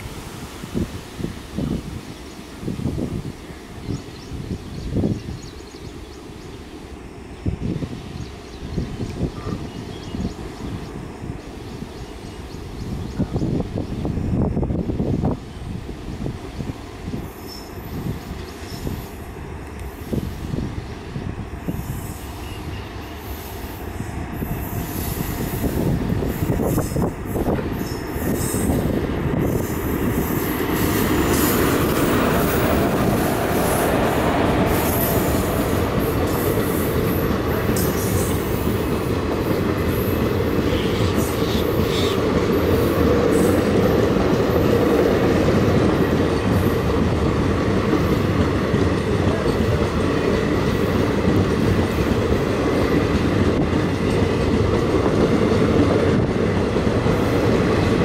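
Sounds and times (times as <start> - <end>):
steel wheels rumbling on rails: 0.0 - 58.0
train passing: 0.0 - 58.0.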